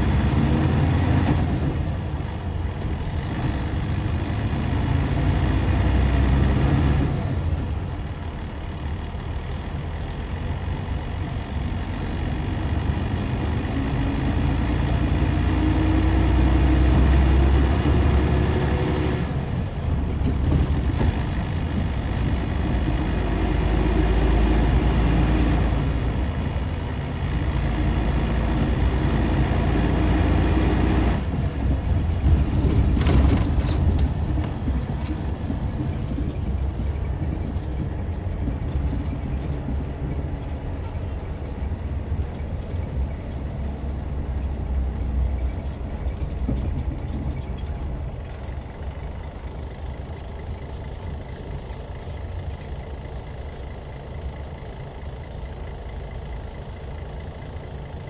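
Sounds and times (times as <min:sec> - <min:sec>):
diesel engine pulling hard: 0:00.0 - 0:58.0.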